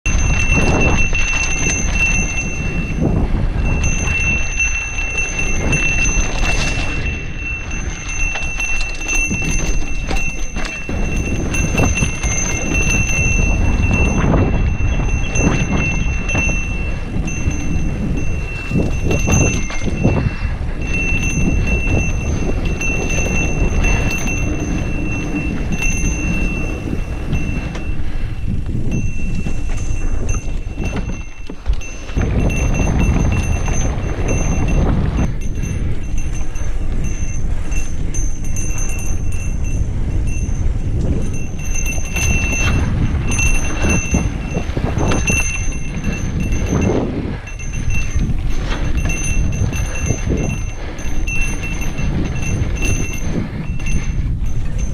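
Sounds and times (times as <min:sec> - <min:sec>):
bike rattling and jingling: 0:00.0 - 0:54.9
wind: 0:00.0 - 0:54.9
bike tyres rumbling on dirt: 0:00.1 - 0:54.9
thin high ringing tone: 0:00.1 - 0:54.9.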